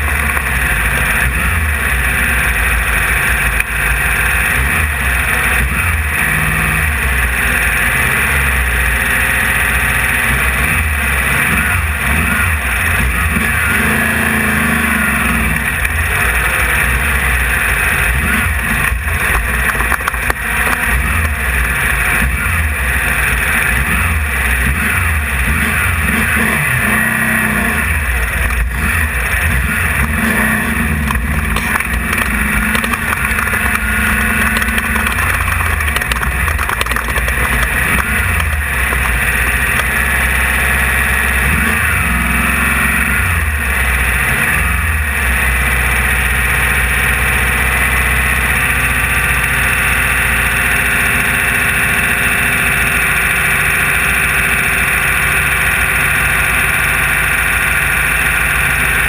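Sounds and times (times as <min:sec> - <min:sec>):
buggy engine running hard: 0:00.0 - 0:59.0.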